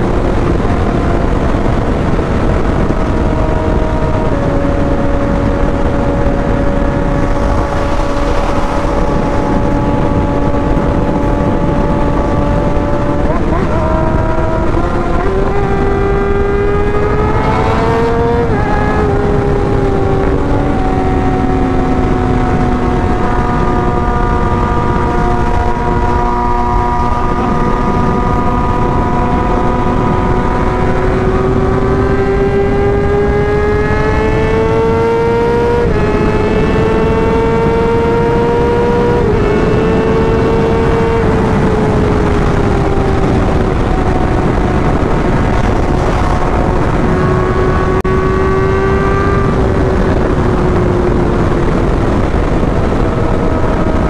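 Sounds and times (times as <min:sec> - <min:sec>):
motorcycle engine at speed: 0:00.0 - 0:54.0
wind rushing: 0:00.0 - 0:54.0.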